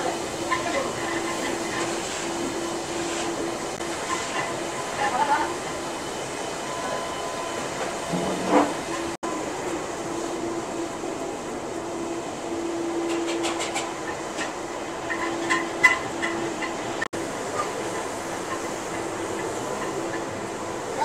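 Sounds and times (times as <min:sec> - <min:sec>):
gas burners roaring: 0:00.0 - 0:21.0.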